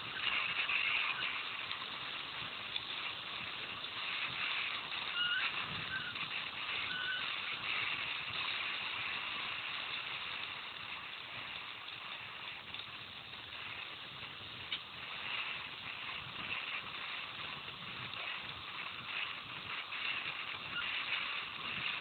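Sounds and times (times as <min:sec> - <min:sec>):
bike tyres crunching on gravel: 0:00.0 - 0:22.0.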